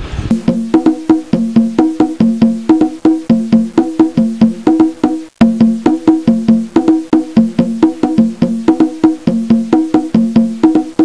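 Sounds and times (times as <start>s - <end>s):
wooden percussion notes: 0.0s - 11.0s.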